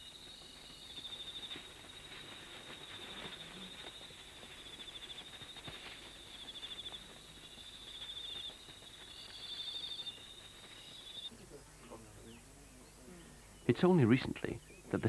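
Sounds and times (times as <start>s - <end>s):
higher insect trill: 0.0s - 14.5s
insects trilling: 0.0s - 15.0s.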